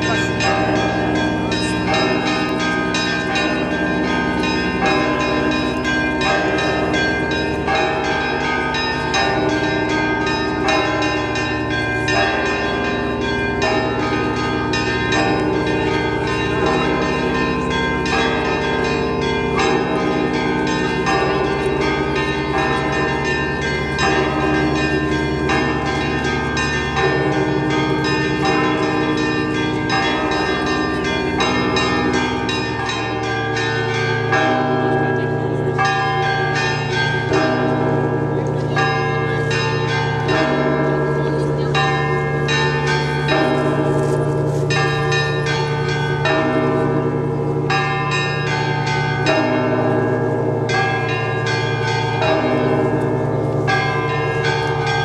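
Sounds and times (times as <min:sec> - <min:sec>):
church bells ringing in patterns: 0:00.0 - 0:55.0
low tones of large bells: 0:00.0 - 0:55.0.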